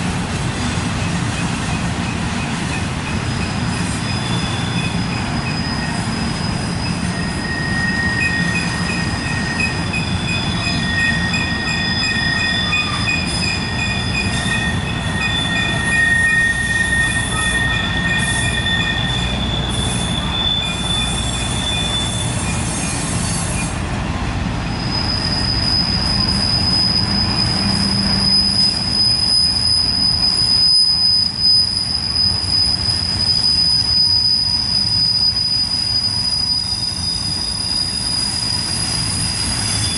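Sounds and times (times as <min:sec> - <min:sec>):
train wheels squealing on rail: 0:00.0 - 0:39.9.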